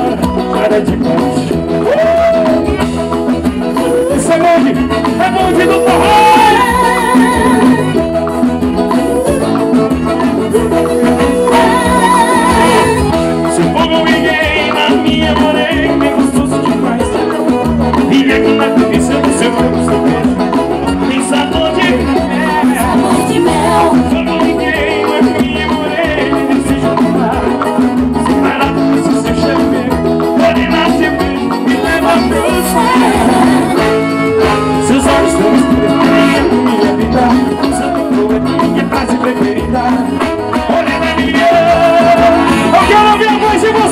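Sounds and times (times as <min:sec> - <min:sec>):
accordion: 0:00.0 - 0:43.9
live band playing: 0:00.0 - 0:43.9
man singing: 0:00.0 - 0:43.9.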